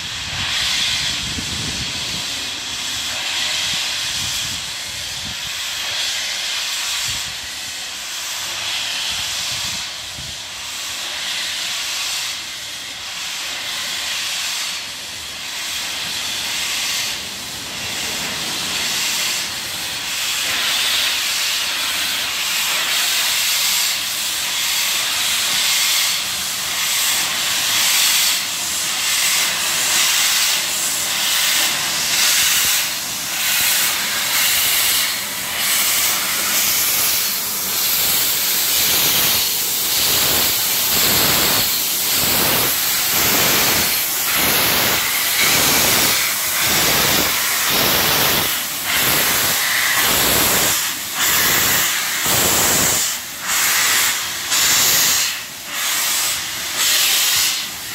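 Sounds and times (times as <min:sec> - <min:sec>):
steam locomotive hissing: 0:00.0 - 0:57.9.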